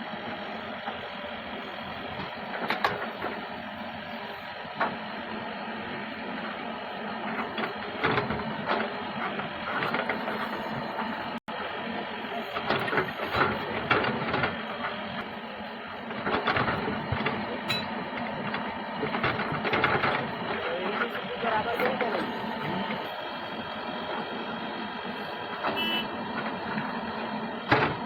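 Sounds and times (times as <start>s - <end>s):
earthmoving machinery engines: 0.0s - 28.0s.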